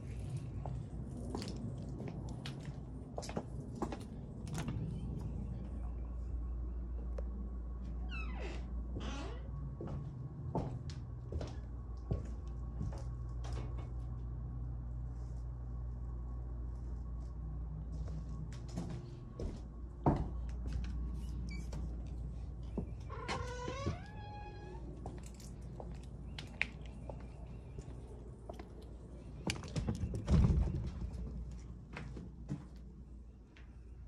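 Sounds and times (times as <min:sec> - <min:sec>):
footsteps in wooden building: 0:00.0 - 0:33.9
steady low rumble: 0:00.0 - 0:34.0.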